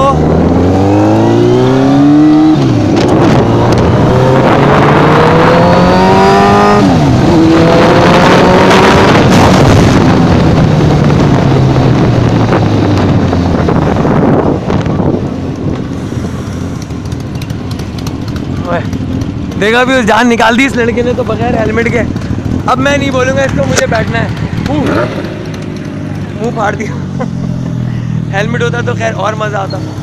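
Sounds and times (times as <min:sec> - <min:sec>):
rush of noise: 0:00.0 - 0:18.9, 0:19.7 - 0:30.0
motorcycle engine accelerating: 0:00.0 - 0:30.0.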